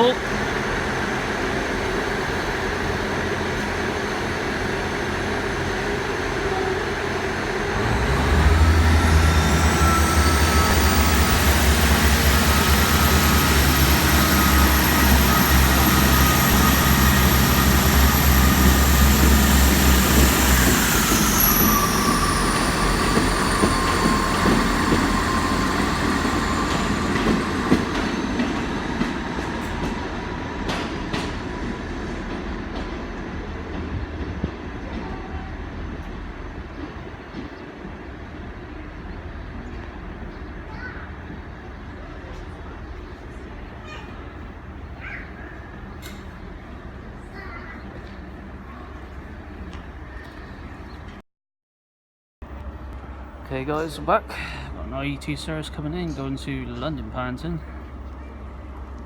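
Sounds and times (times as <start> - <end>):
diesel train engine drone: 0.0 - 51.2, 52.4 - 59.0
train whine: 0.0 - 51.2, 52.4 - 59.0.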